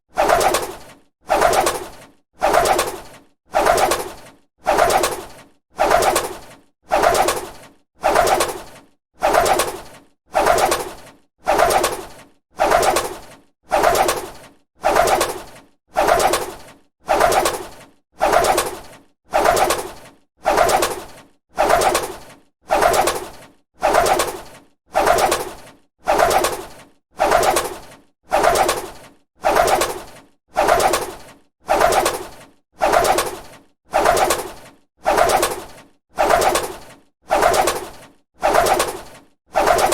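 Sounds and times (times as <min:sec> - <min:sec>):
bird wings flapping: 0:00.1 - 0:39.9.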